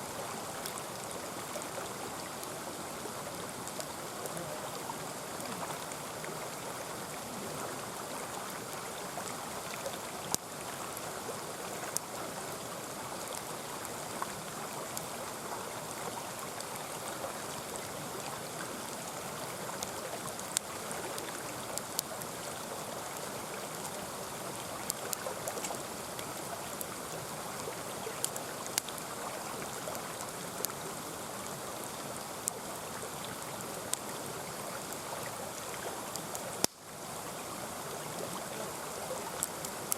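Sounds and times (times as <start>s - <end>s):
campfire crackles: 0.0s - 39.9s
mountain stream running: 0.0s - 39.9s.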